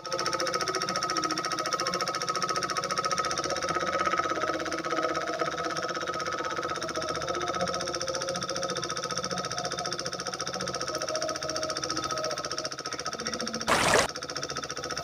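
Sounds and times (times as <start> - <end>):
miniature diesel engine running: 0.0 - 15.0.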